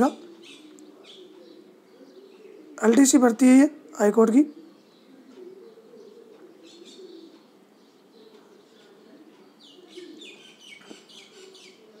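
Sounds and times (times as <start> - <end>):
high bird chirping: 0.0 - 3.0, 4.4 - 11.9
bird cooing: 0.0 - 12.0.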